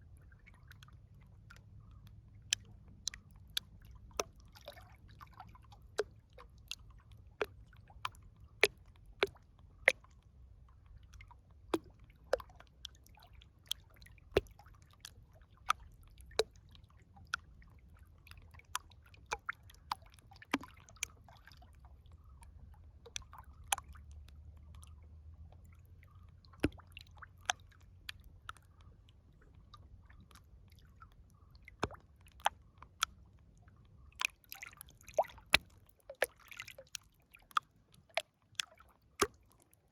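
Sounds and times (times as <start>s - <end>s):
faint low rumble: 0.0s - 39.9s
water plinks and small splashes: 0.0s - 39.9s.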